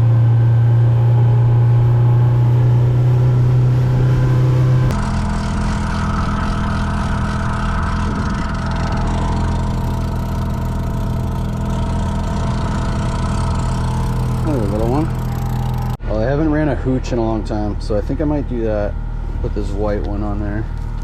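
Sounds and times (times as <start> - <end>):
power boat engine running: 0.0 - 21.0.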